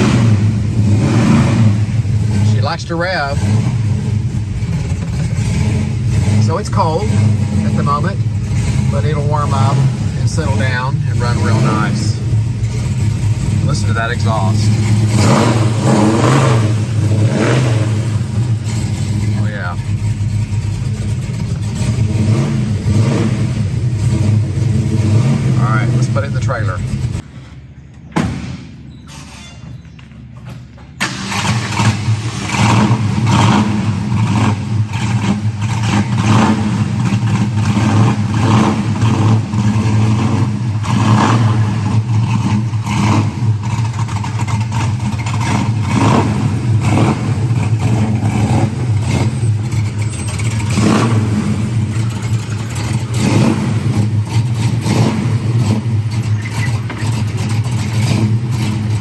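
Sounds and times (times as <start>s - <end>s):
car engine starting and running: 0.0s - 29.3s, 30.0s - 59.0s.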